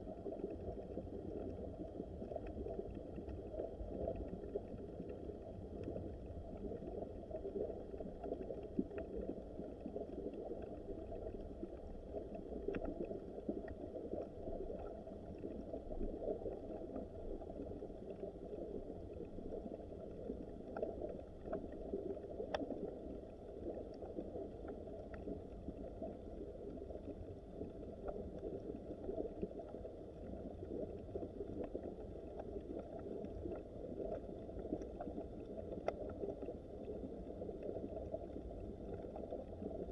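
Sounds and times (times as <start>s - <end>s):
faint ticks: 0.0s - 39.9s.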